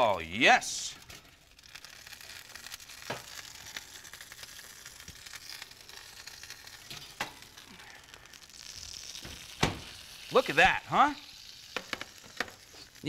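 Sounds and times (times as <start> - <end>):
fish sizzling in a roasting pan: 0.0 - 13.0.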